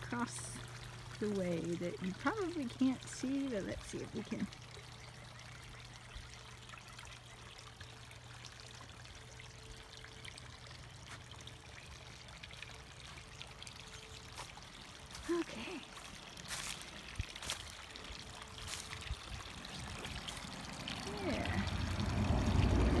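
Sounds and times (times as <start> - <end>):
water trickling into pond: 0.0 - 23.0.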